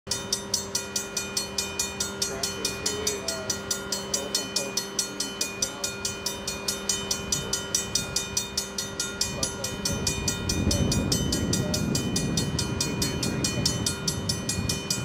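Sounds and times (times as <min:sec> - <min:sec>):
railroad crossing bell ringing: 0:00.1 - 0:15.0
steady low hum: 0:00.1 - 0:15.0.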